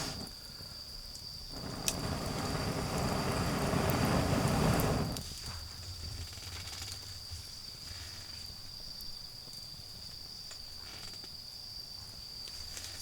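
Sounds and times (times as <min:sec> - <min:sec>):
faint fire crackles: 0:00.0 - 0:11.2
crickets trilling: 0:00.0 - 0:13.0.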